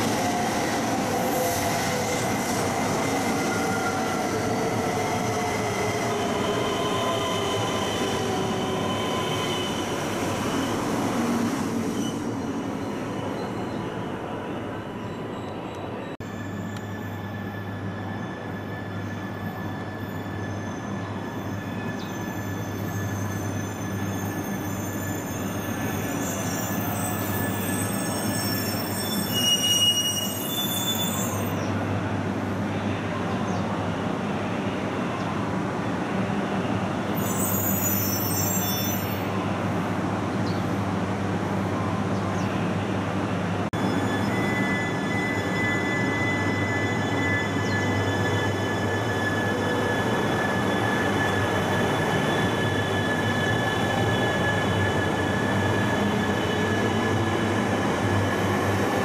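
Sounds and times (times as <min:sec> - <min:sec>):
high wheel and brake squeals: 0:00.0 - 0:31.7, 0:37.1 - 0:39.4, 0:43.8 - 0:59.0.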